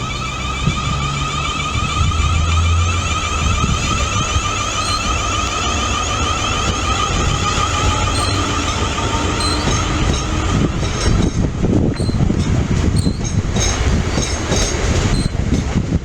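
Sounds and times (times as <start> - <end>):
train high-pitched whine: 0.0 - 16.0
train rumble: 0.0 - 16.0.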